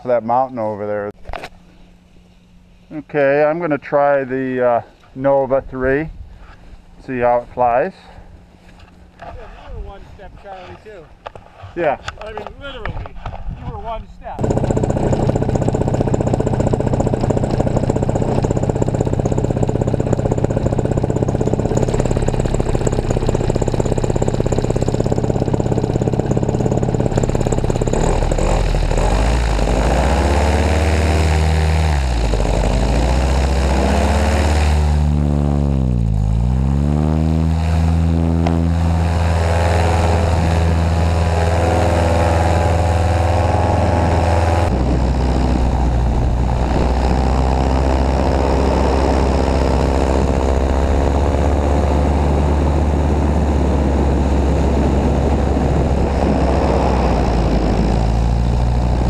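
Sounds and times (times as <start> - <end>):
paramotor engine and propeller: 1.2 - 59.0.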